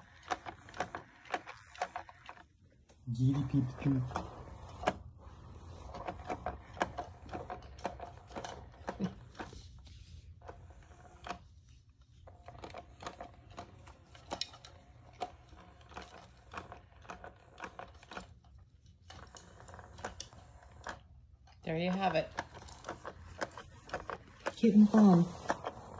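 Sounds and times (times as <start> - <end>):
plastic toys clicking and rattling: 0.0 - 9.8, 12.2 - 25.9.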